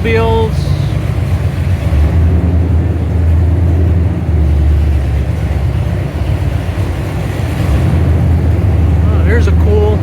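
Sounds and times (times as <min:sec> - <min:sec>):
car engines rumbling: 0:00.0 - 0:10.0.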